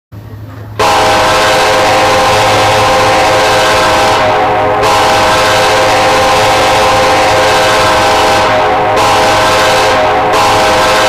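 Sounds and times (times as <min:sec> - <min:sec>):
steady low hum: 0:00.1 - 0:11.0
locomotive air horn chord: 0:00.8 - 0:11.0.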